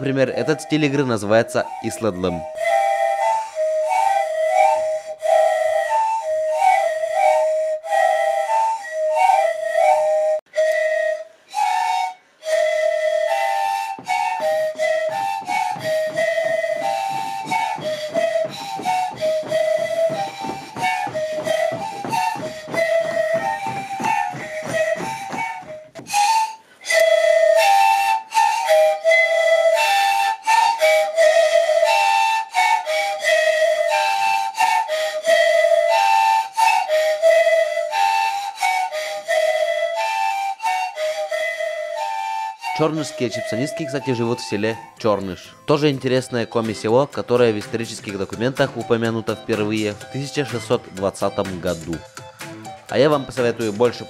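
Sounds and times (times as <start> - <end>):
panflute ensemble breathy notes: 0.0 - 54.0.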